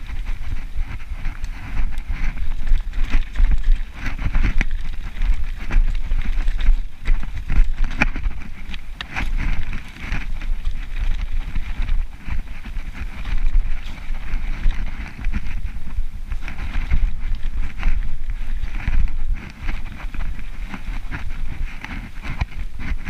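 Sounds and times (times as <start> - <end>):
bike clicks and rattles: 0.0 - 23.0
bike tyres rolling over dirt: 0.0 - 23.0
wind buffeting microphone: 0.0 - 23.0.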